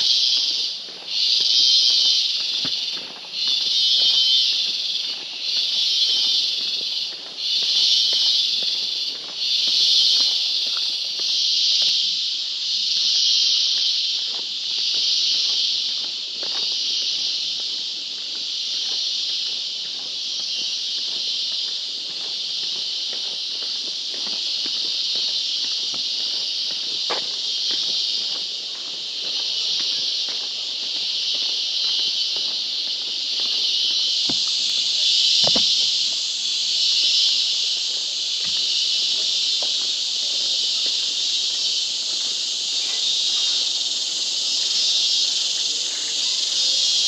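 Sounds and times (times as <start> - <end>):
faint footsteps on trail: 0.0 - 47.0
insects buzzing drone: 0.0 - 47.0.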